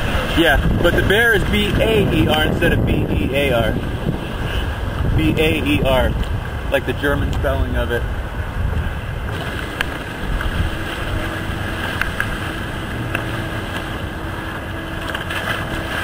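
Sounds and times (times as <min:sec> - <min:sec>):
water sloshing and splashing: 0:00.0 - 0:16.0
wind buffeting microphone: 0:00.0 - 0:16.0.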